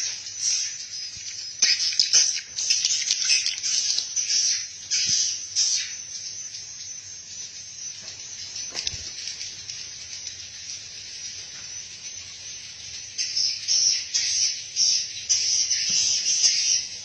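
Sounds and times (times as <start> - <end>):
swiftlets twittering: 0.0 - 17.0.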